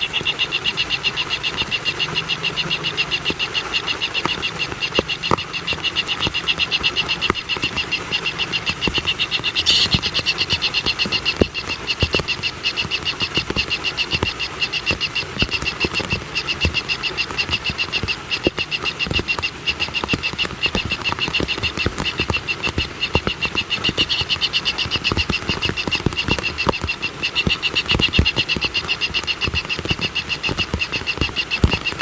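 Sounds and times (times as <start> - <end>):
fast pulsing animal calls: 0.0 - 32.0.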